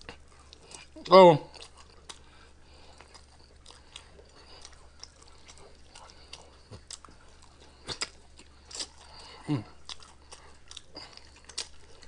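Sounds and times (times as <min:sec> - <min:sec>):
chewing fried chicken: 0:00.0 - 0:12.0.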